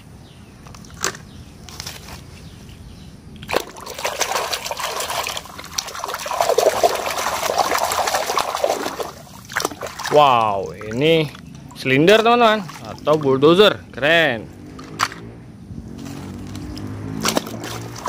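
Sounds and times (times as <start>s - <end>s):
water splashing and sloshing: 3.3s - 18.0s.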